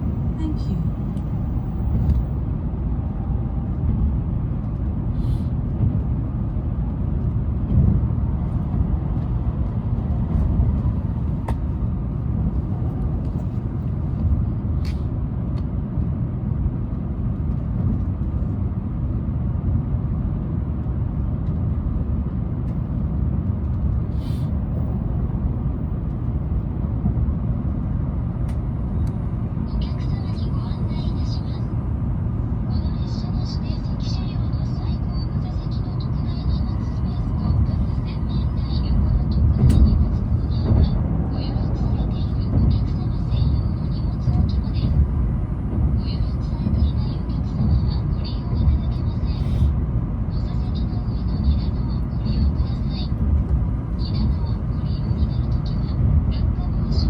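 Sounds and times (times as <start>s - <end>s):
train running gear rumble: 0.0s - 57.0s.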